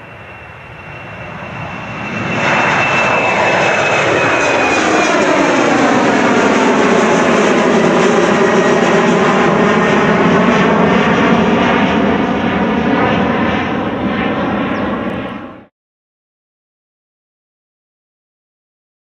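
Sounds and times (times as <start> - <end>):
jet engines running: 0.0 - 15.7.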